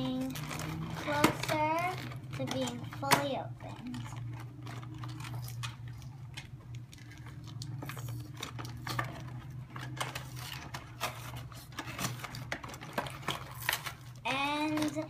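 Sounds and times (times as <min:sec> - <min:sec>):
packaging crackling: 0:00.0 - 0:15.0
steady low hum: 0:00.0 - 0:15.0.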